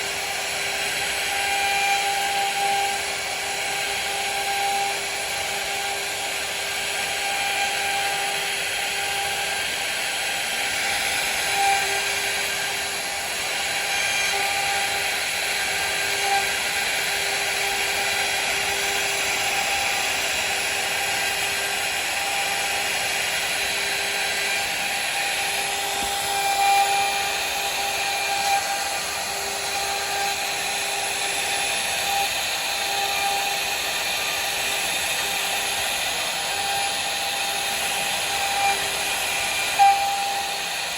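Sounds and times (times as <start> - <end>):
bit cutting into wood: 0.0 - 40.9
router spindle whine: 0.0 - 40.9.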